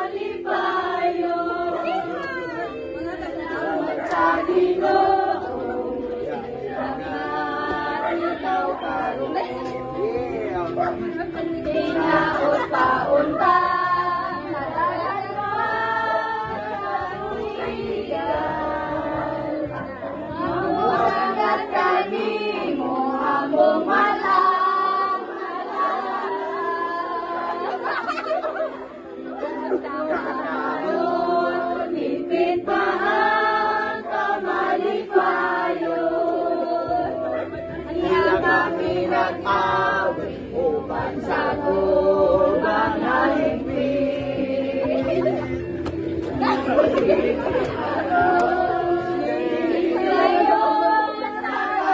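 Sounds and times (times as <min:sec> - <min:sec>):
women singing together: 0:00.0 - 0:51.9.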